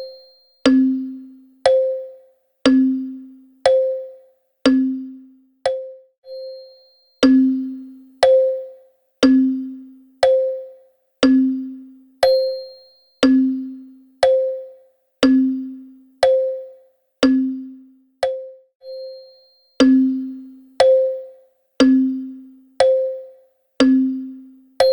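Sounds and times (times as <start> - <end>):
wall clock ticking: 0.6 - 5.0, 5.7 - 6.0, 7.2 - 12.6, 13.2 - 18.5, 19.8 - 24.9.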